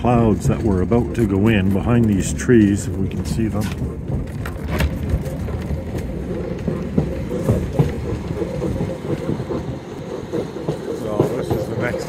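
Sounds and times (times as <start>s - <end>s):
clattering and rattling knocks: 0.0s - 12.0s
train wheels rumbling on rail: 0.0s - 12.0s.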